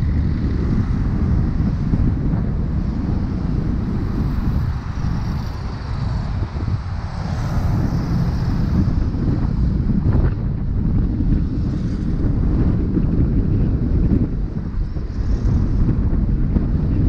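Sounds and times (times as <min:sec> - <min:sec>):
cars and motorcycles passing: 0:00.0 - 0:17.0
wind buffeting microphone: 0:00.0 - 0:17.0.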